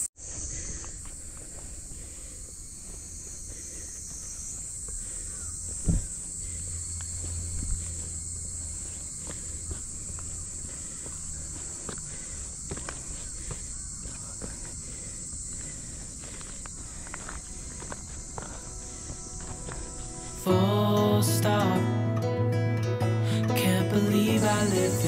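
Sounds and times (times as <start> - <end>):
cicadas chorus: 0.0 - 22.0, 23.2 - 25.0
footsteps: 0.2 - 20.7.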